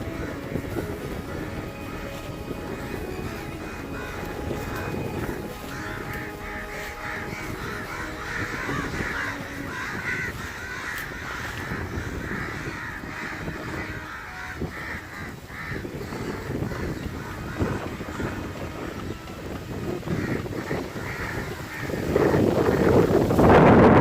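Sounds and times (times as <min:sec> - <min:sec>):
bird calling harsh notes: 0:00.0 - 0:23.0
wind on microphone: 0:00.0 - 0:24.0.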